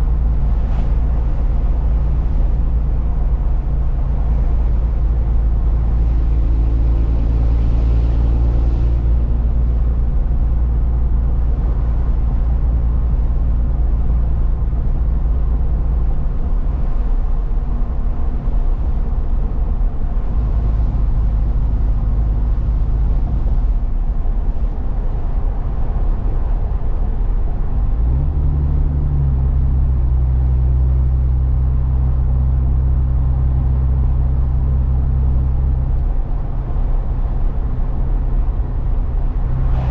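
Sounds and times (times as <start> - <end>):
road noise: 0.0 - 39.9.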